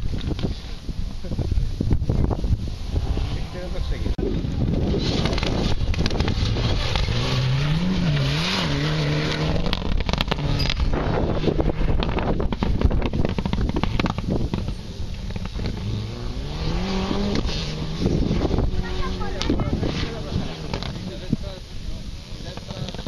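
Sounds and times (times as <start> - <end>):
rally car engine revving: 2.0 - 23.0.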